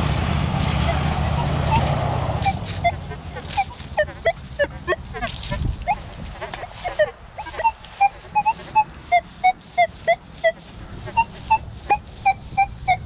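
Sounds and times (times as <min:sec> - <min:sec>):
metal detector choppy beeps: 0:00.8 - 0:13.0.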